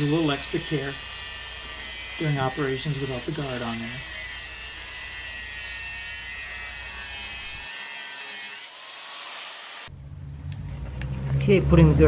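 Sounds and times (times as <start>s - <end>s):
angle grinder whining: 0.0s - 9.9s.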